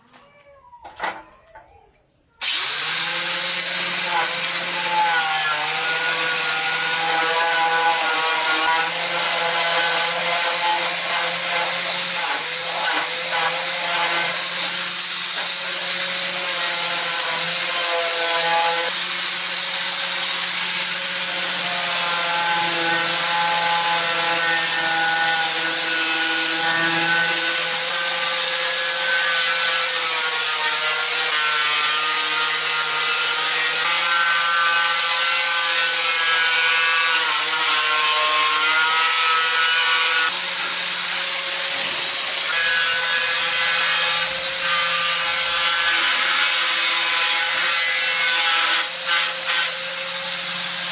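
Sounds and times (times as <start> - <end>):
power tool whining: 2.4 - 50.9.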